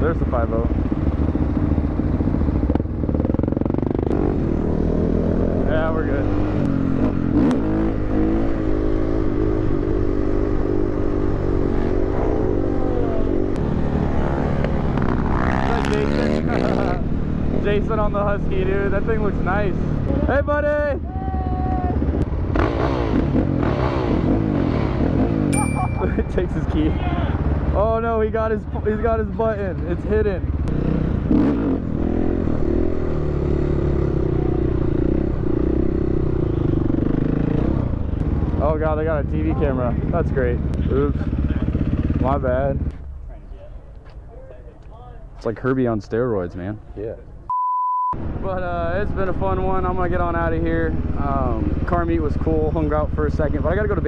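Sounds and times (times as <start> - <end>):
dirt bike engine: 0.0 - 47.5.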